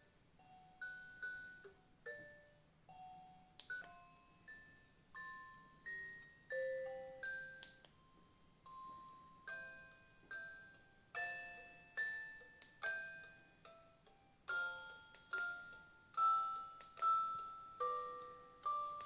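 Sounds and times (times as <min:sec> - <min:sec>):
music-box lullaby chime notes: 0:00.4 - 0:19.0.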